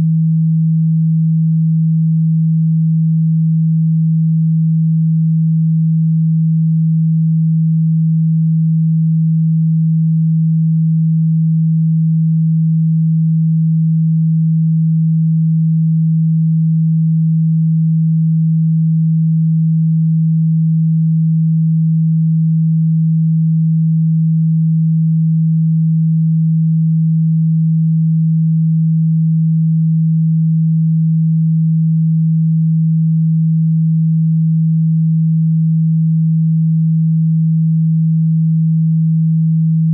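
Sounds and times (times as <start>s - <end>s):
low electronic sine tone: 0.0s - 39.9s.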